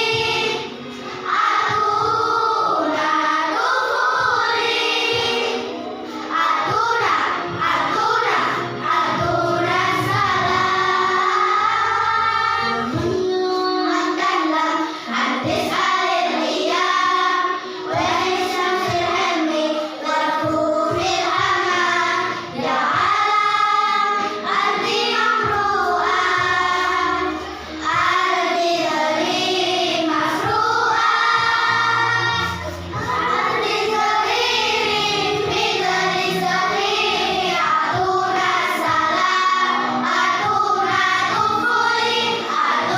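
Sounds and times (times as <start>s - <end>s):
children's choir singing: 0.0s - 42.9s.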